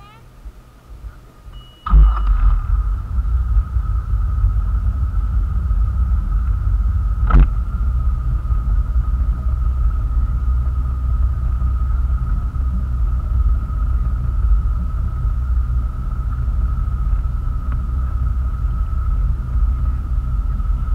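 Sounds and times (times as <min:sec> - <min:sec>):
motorboat engine rumble: 0:00.0 - 0:20.9
thin steady whine: 0:00.0 - 0:20.9.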